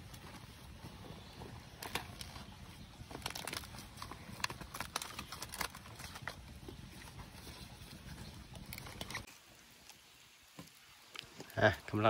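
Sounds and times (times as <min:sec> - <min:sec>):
leaves rustling and crackling: 0:00.0 - 0:12.0.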